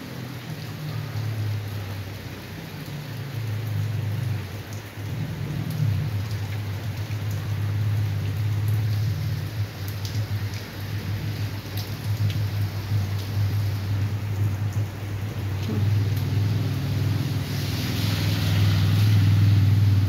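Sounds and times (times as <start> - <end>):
heavy rain on concrete: 0.0 - 20.0
water drips ticking: 0.2 - 17.6.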